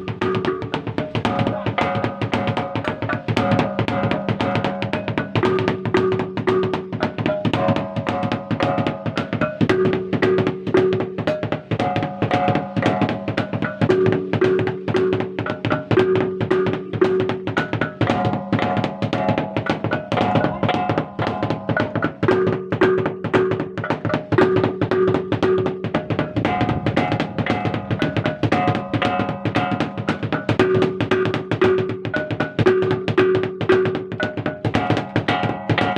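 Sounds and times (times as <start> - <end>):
rapid drum strokes: 0.0 - 35.9.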